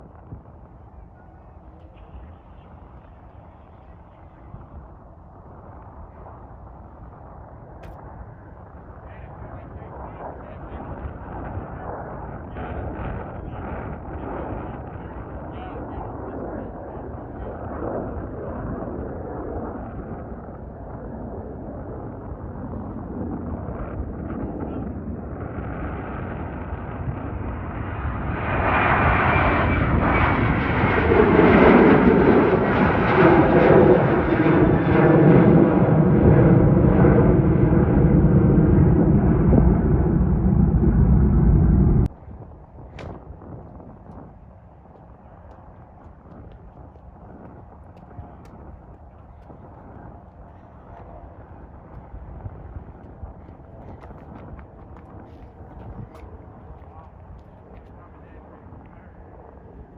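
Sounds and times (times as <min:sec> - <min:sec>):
jet airliner passing: 0:00.0 - 0:59.9.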